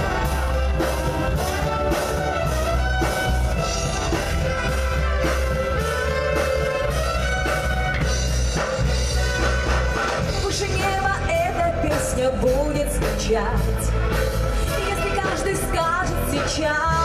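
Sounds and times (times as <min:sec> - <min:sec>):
bass and drum beat: 0:00.0 - 0:17.0
brass band playing: 0:00.0 - 0:17.0.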